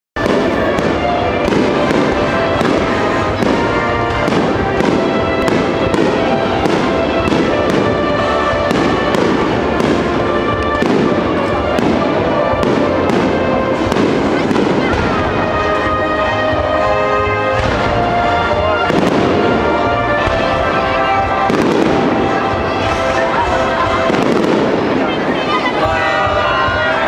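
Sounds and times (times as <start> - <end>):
sharp firework reports: 0.2 - 26.8
fireworks bursts and crackle: 0.2 - 27.0.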